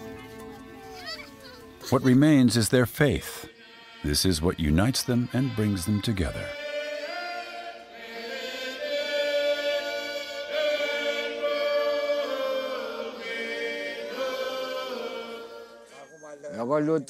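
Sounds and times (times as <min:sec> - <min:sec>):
congregation singing a hymn: 0:02.2 - 0:16.0.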